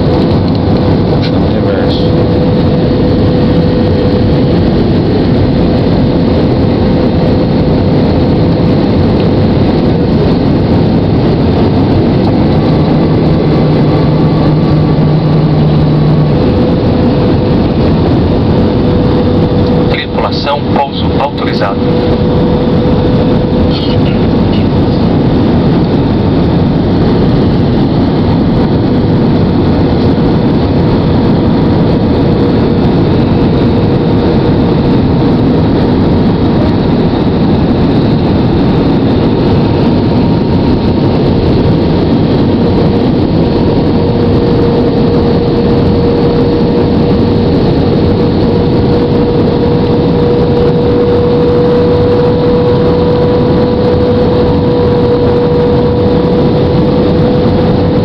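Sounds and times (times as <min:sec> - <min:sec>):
jet engine roar in cabin: 0:00.0 - 0:58.0.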